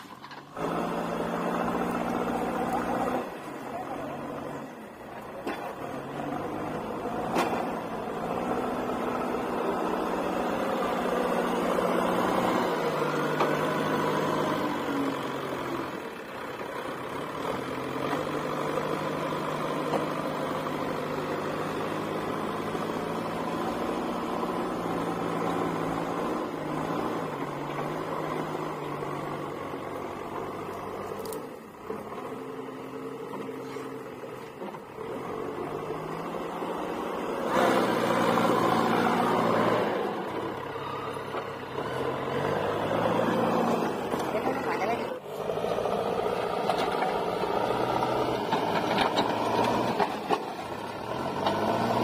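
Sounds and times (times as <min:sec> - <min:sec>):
backhoe diesel engine under load: 0:00.0 - 0:52.0.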